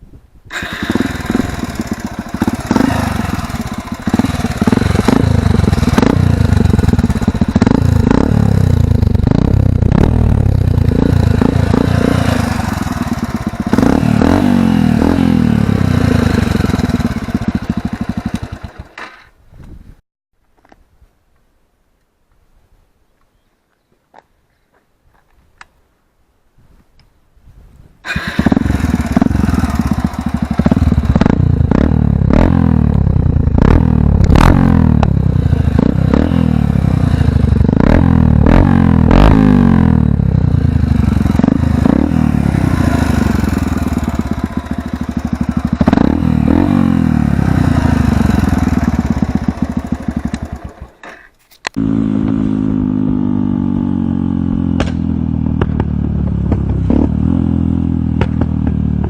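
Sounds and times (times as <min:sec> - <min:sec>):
motorcycle engine revving: 0:00.5 - 0:19.3, 0:28.0 - 0:59.0.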